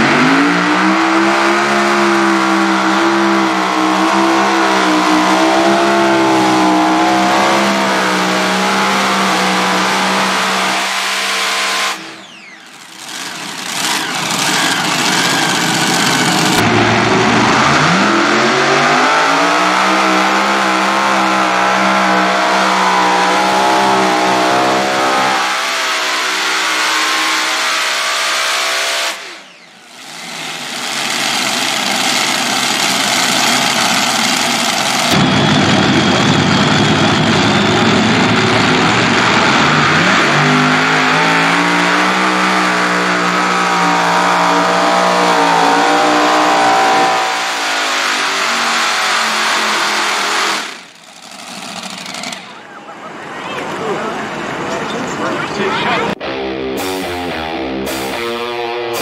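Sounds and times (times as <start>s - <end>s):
pulling tractor engines at full throttle: 0.0s - 56.2s.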